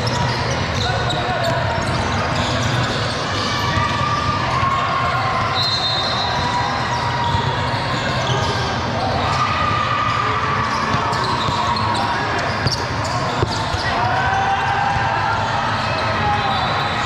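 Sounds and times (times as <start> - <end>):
crowd voices in a large hall: 0.0 - 17.0.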